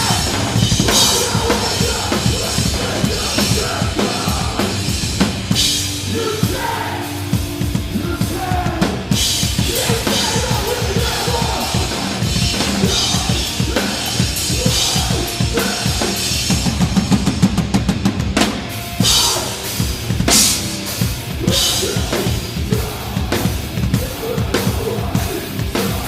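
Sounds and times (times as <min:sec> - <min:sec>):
bass guitar: 0:00.0 - 0:26.0
distorted guitars: 0:00.0 - 0:26.0
drum kit: 0:00.0 - 0:26.0.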